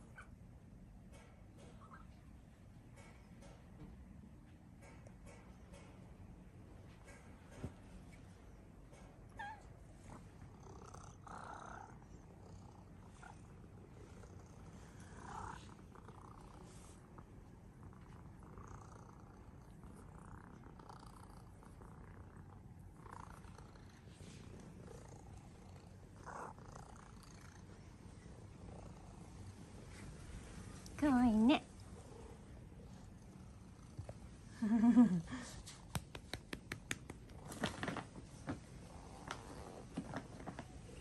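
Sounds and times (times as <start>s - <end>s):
cat purring: 7.1s - 41.0s.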